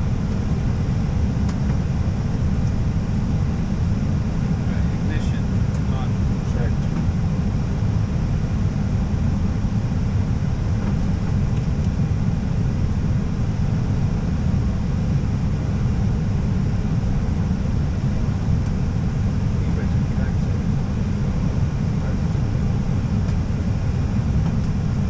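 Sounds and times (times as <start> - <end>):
aircraft cockpit rumble: 0.0 - 25.0.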